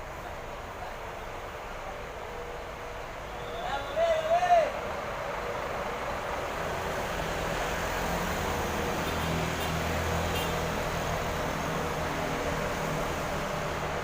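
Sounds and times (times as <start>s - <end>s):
bus diesel engine hum: 0.0s - 14.0s
traffic noise: 0.0s - 14.0s.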